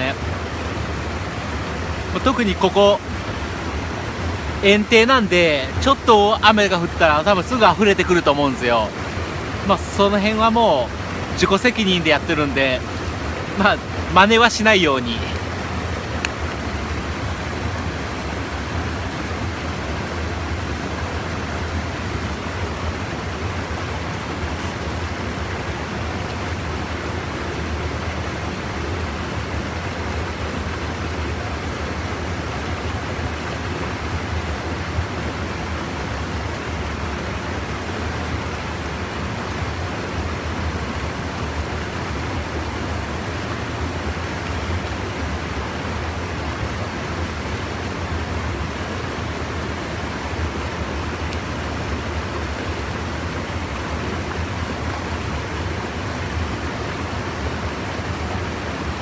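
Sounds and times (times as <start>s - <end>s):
water rushing over a weir: 0.0s - 59.0s.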